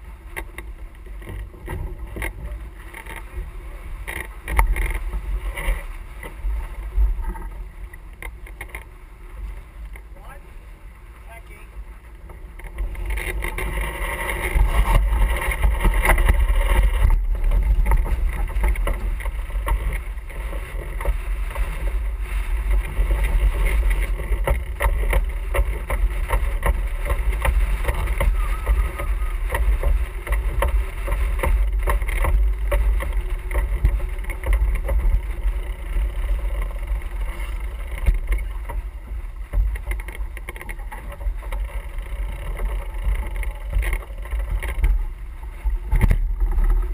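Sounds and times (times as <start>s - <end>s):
water slapping along hull: 0.0s - 46.9s
wind buffeting microphone: 0.0s - 46.9s.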